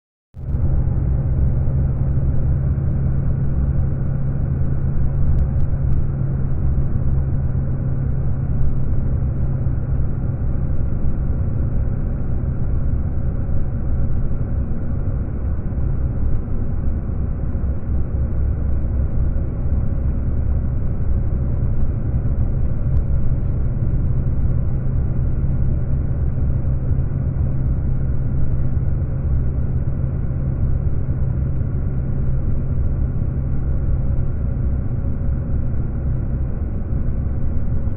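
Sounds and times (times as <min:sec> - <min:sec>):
car engine and tyres rumbling: 0:00.4 - 0:37.9.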